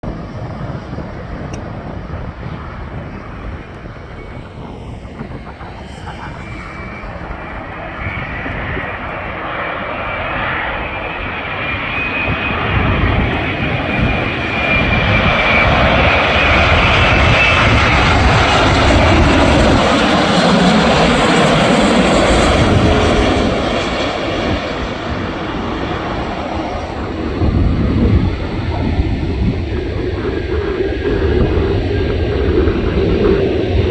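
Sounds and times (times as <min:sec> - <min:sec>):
jet engine whine and roar: 0:00.0 - 0:33.9.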